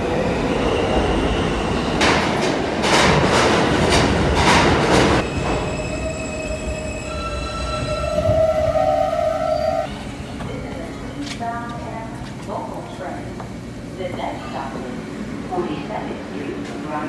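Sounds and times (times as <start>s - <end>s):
subway train wheels clattering: 0.0s - 17.0s.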